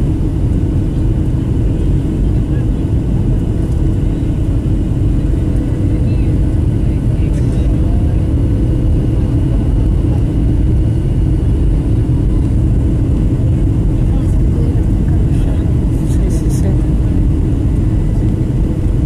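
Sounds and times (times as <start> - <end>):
airliner cabin engine rumble: 0.0 - 19.0
constant hum: 0.0 - 19.0.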